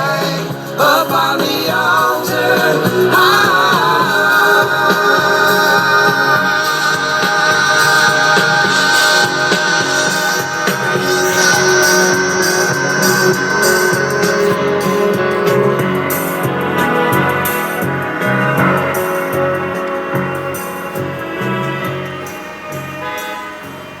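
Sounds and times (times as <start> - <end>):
rock song: 0.0 - 24.0.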